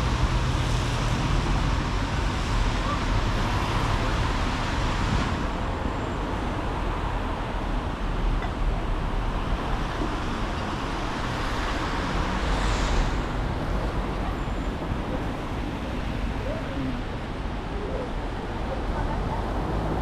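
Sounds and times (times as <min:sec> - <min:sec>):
hum of passing cars: 0:00.0 - 0:20.0.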